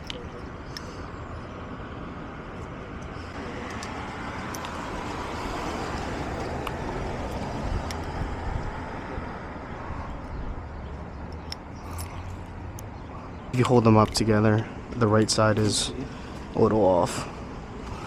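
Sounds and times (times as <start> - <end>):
vehicle and road noise: 0.0 - 18.0.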